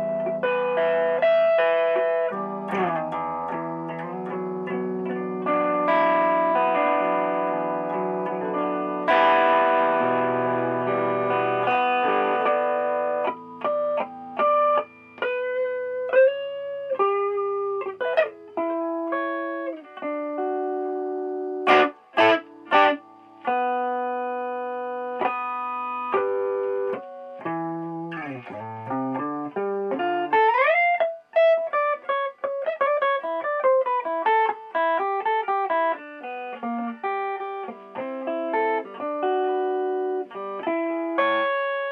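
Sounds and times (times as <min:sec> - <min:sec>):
distorted electric guitar: 0:00.0 - 0:41.9.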